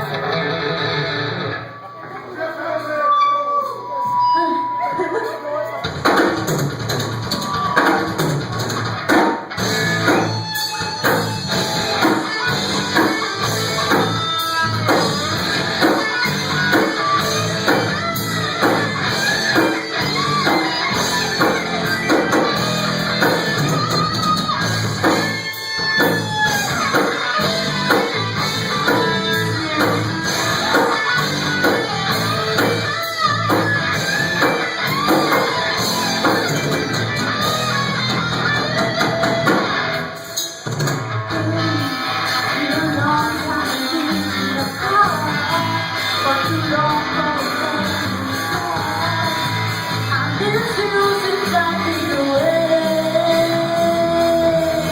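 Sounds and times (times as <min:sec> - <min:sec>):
electric guitars: 0:00.0 - 0:54.9
drum kit beat: 0:03.6 - 0:54.9.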